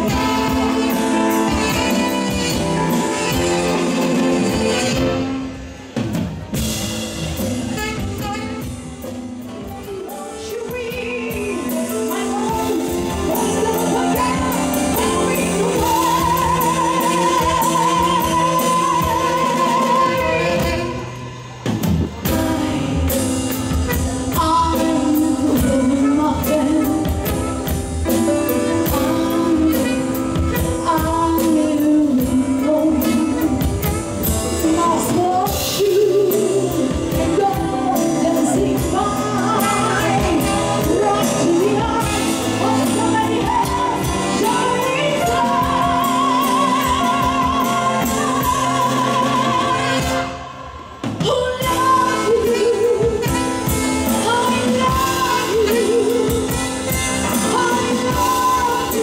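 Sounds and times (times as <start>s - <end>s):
woman singing: 0.0s - 5.6s, 7.7s - 21.2s, 22.1s - 59.0s
live band playing: 0.0s - 59.0s.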